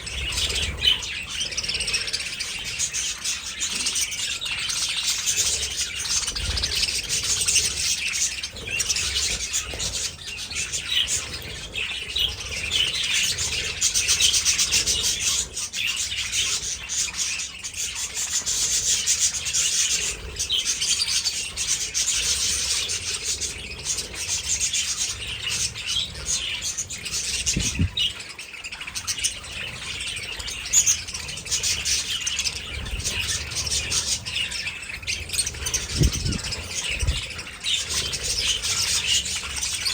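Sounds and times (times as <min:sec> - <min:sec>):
flock of budgerigars chirping: 0:00.0 - 0:39.9.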